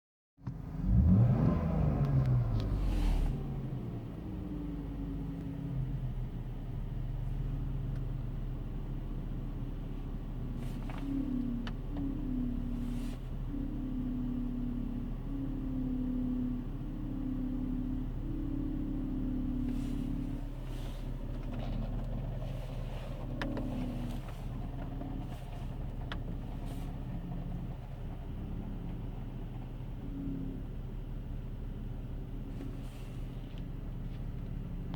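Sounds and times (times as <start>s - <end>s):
car engine running: 0.4s - 34.9s.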